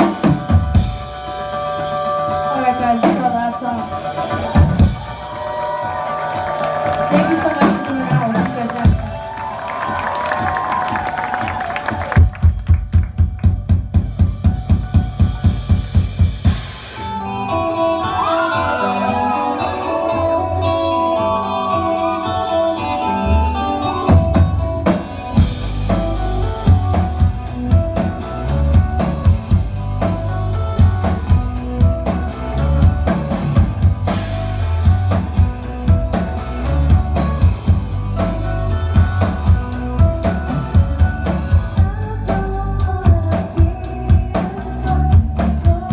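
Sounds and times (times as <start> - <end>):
melodic guitar with sliding notes: 0.0 - 9.4, 16.8 - 45.9
live rock band playing: 0.0 - 45.9.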